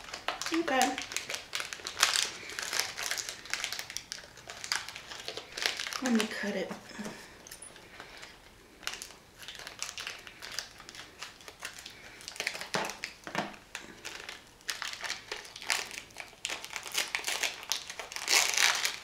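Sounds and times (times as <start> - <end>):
plastic wrapper crinkling: 0.0 - 19.0.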